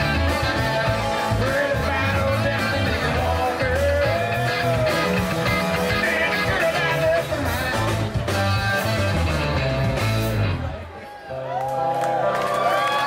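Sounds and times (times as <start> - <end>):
live rock band playing: 0.0 - 11.4
sliding guitar melody: 0.0 - 11.4.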